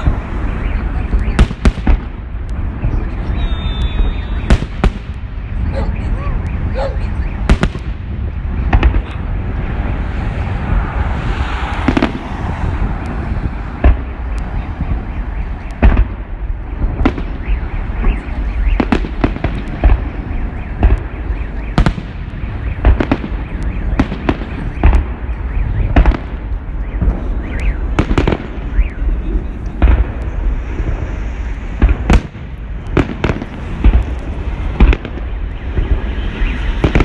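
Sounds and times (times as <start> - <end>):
crackling rumble: 0.0 - 37.0
firework bangs: 0.0 - 37.0.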